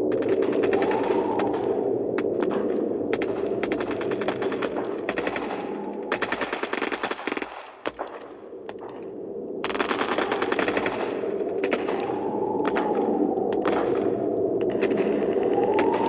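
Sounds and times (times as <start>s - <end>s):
steady low drone: 0.0s - 6.8s, 8.4s - 16.0s.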